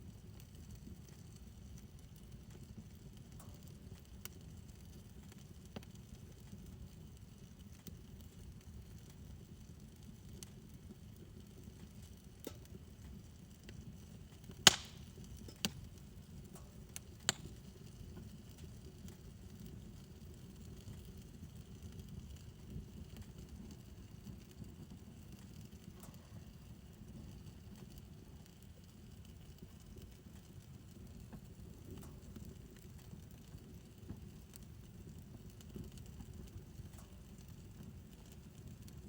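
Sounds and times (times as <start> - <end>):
fire crackling and popping: 0.0 - 39.0
wood fire rumbling: 0.0 - 39.0.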